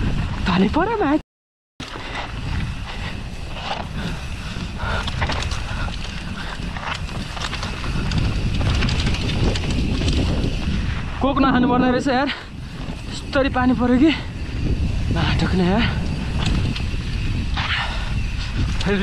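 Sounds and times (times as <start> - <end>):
wind rushing over microphone: 0.0 - 1.2, 1.8 - 19.0
bike frame rattling and knocking: 1.8 - 19.0.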